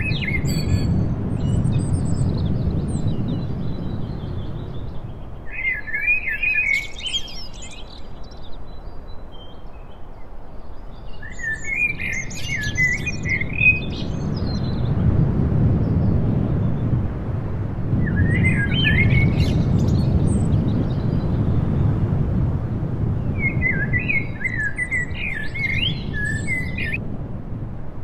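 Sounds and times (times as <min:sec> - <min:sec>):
small songbirds chirping: 0:00.0 - 0:17.0, 0:18.0 - 0:22.1, 0:23.1 - 0:27.0.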